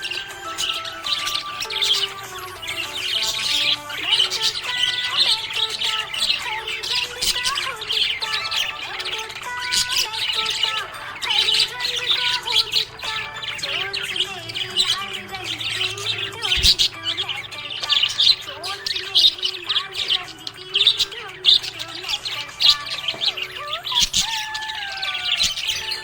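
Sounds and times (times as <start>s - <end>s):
background melody of held tones: 0.0s - 26.0s
budgerigar chirping: 0.0s - 26.0s.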